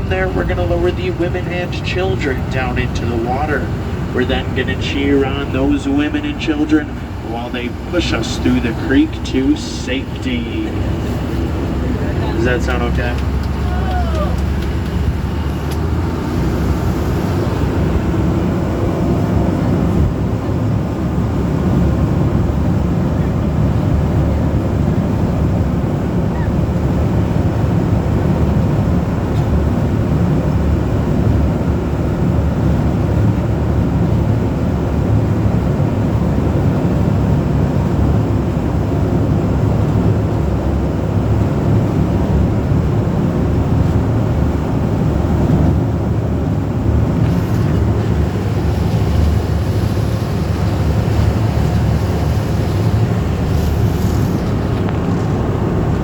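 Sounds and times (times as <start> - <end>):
boat engine rumbling: 0.0 - 56.0.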